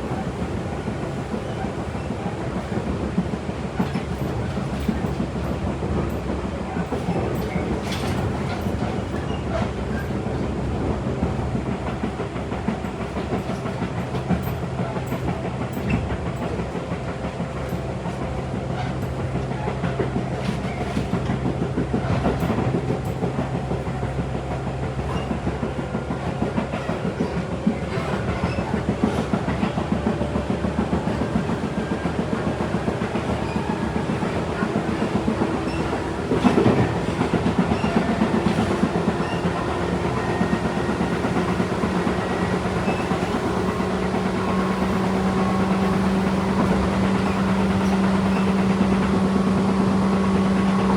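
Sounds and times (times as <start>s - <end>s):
train rumble and motor hum: 0.0s - 50.9s
wheels clacking over rail joints: 0.1s - 50.9s.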